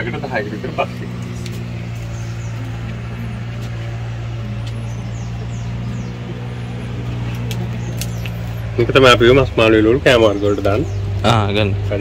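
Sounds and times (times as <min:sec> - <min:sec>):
motor humming: 0:00.0 - 0:11.2.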